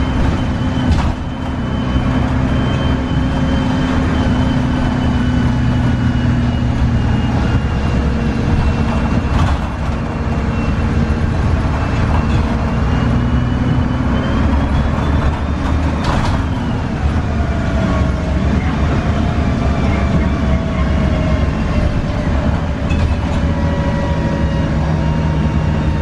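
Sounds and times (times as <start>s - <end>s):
bus diesel engine droning: 0.0s - 26.0s
high thin drivetrain whine: 0.0s - 26.0s.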